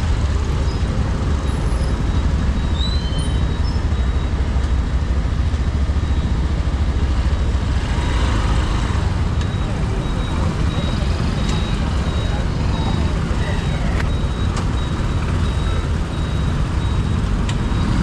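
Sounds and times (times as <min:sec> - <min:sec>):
motorcycle engine rumbling: 0:00.0 - 0:18.0
surrounding motorbike engines: 0:00.0 - 0:18.0.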